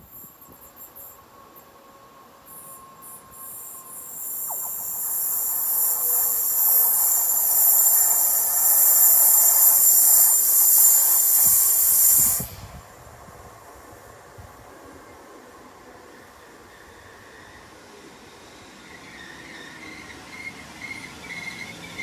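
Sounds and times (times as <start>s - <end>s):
rails hissing with thin whistle: 0.0s - 22.0s.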